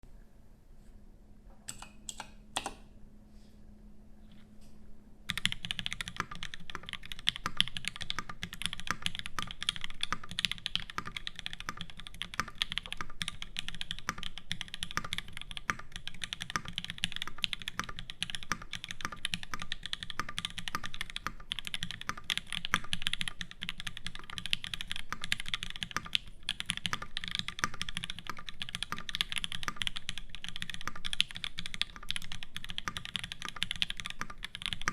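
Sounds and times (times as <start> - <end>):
mechanical keyboard typing: 5.3 - 34.9.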